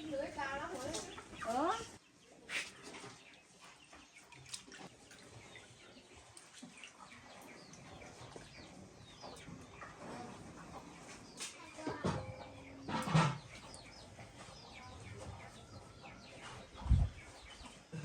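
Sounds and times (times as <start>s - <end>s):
chickens calling: 0.0s - 18.0s
small birds chirping: 0.0s - 18.0s.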